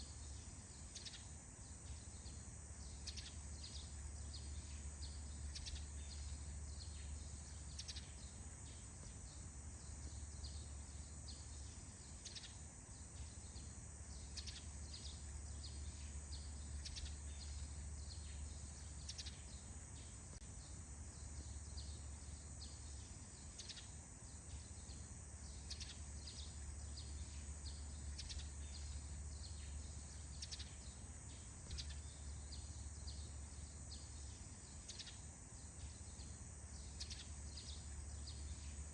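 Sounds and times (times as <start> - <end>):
bird chirps: 0.0 - 38.9
high insect drone: 0.0 - 38.9.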